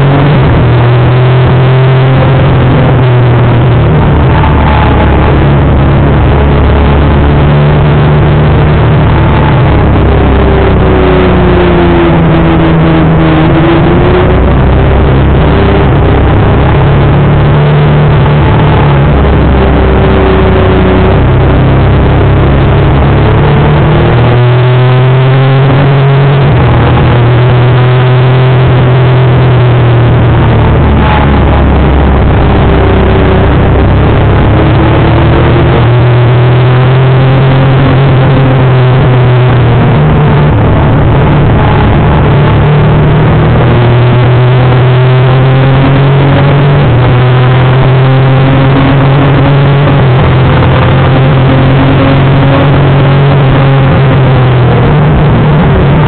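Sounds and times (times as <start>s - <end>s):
heavy wind noise: 0.0s - 56.0s.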